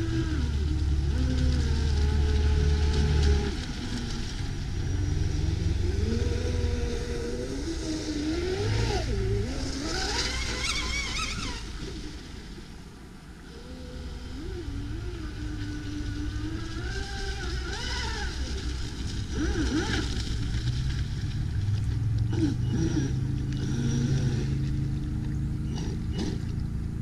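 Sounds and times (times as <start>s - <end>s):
electric motor whining: 0.0s - 12.1s, 13.5s - 20.5s, 22.2s - 26.6s.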